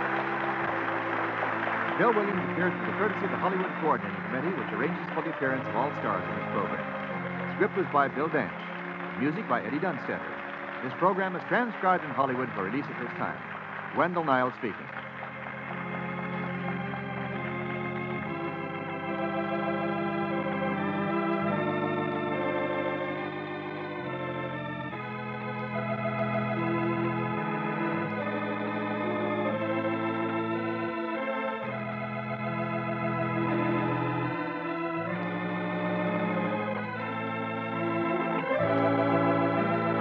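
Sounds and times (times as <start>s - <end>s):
organ playing sustained chords: 0.0s - 40.0s.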